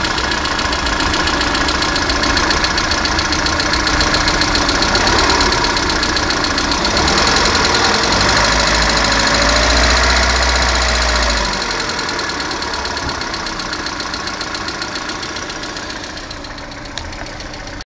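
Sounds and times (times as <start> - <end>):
car engine knocking: 0.0 - 17.8.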